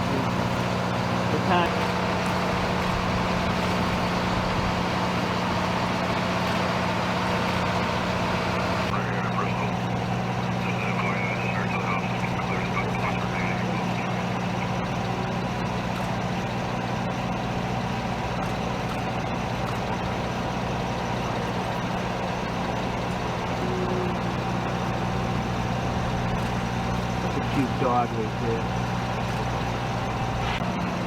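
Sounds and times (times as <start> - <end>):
vehicle engine idling: 0.0 - 31.0.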